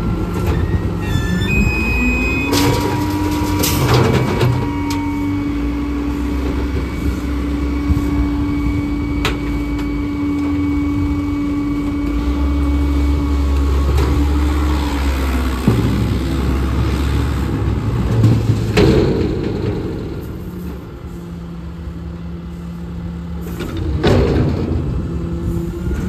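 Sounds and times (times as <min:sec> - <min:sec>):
diesel engines running: 0:00.0 - 0:26.0
hydraulic drone: 0:00.0 - 0:26.0.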